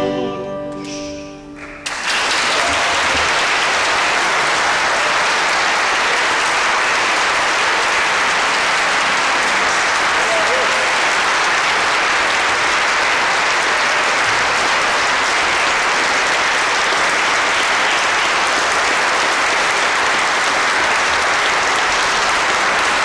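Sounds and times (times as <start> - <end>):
audience applauding: 1.6 - 23.0.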